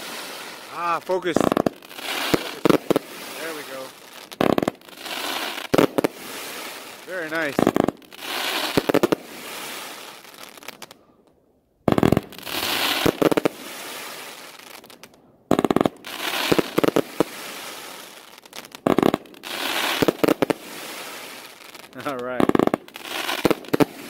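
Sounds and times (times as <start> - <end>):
fireworks bangs: 0.0 - 11.0, 11.8 - 24.0
fireworks crackle: 0.0 - 11.0, 11.9 - 24.0.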